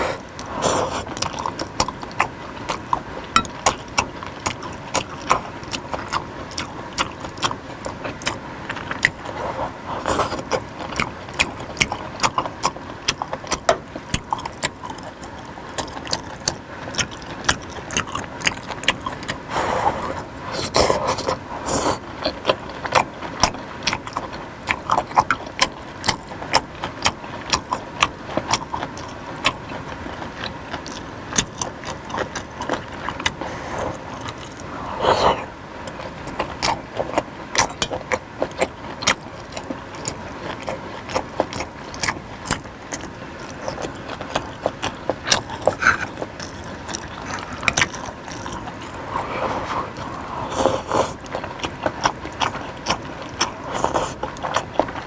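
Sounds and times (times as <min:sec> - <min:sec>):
chewing with wet mouth clicks: 0:00.2 - 0:55.0.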